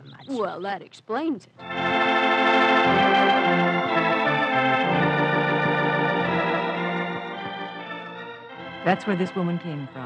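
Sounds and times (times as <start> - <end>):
organ chords over bass line: 1.6 - 10.0.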